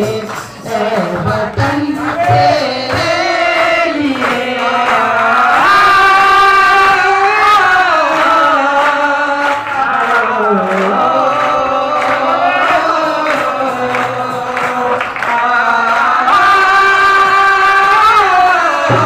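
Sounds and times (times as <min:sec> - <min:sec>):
person singing a slow melody: 0:00.0 - 0:19.0.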